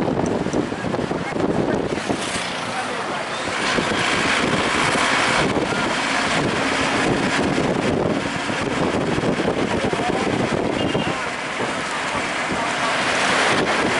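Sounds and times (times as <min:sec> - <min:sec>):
wind rushing: 0:00.0 - 0:02.7, 0:03.5 - 0:13.9
vehicle engine and tyres: 0:00.0 - 0:13.9.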